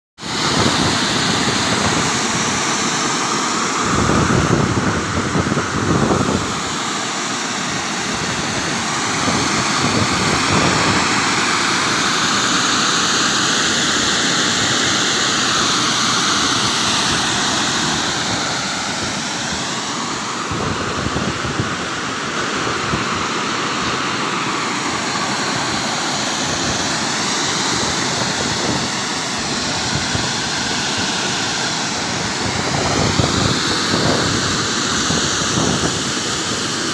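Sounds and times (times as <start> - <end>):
water spray rushing hiss: 0.2 - 36.9.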